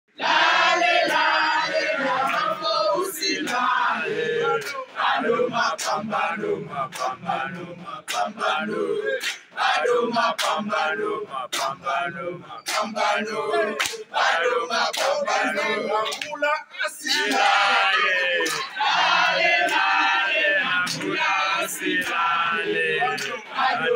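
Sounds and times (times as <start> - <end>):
men chanting in unison: 0.2 - 23.9.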